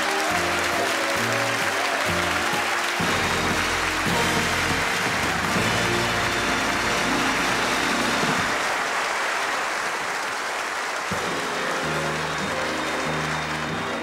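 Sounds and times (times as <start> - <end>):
band music: 0.0 - 8.7, 11.1 - 14.0
studio audience applauding: 0.0 - 14.0.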